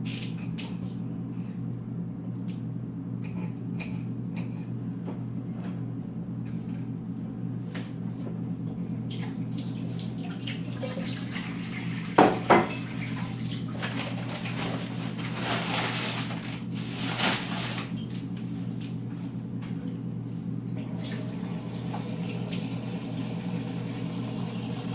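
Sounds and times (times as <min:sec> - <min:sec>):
steady low hum: 0:00.0 - 0:13.3, 0:14.8 - 0:24.9.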